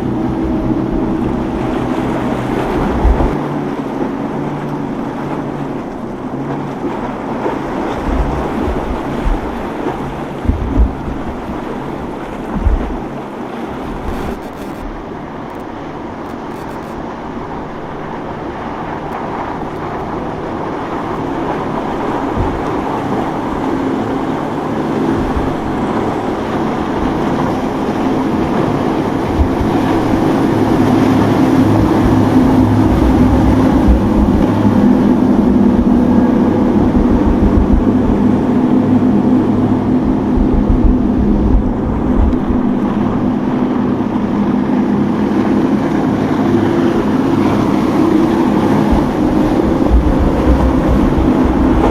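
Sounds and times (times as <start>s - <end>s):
motorboat engine running: 0.0s - 51.9s
surf washing: 0.0s - 51.9s
wind buffeting microphone: 0.0s - 51.9s.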